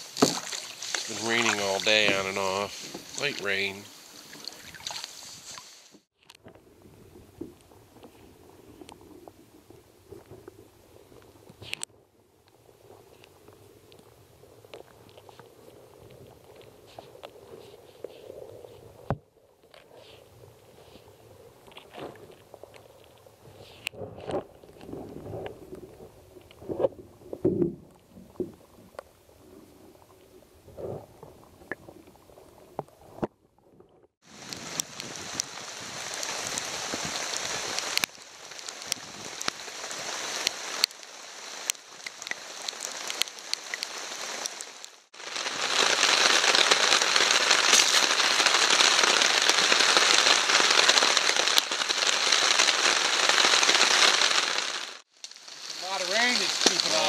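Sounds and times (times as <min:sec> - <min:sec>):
rain falling: 0:00.0 - 0:27.2, 0:34.2 - 0:57.0
campfire crackling: 0:00.0 - 0:57.0.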